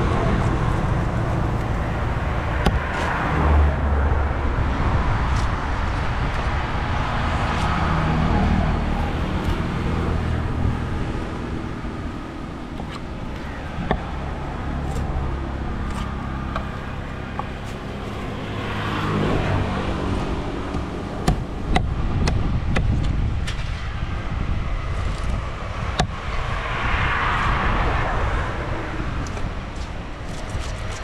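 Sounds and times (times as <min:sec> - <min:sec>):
engine humming: 0:00.0 - 0:31.0.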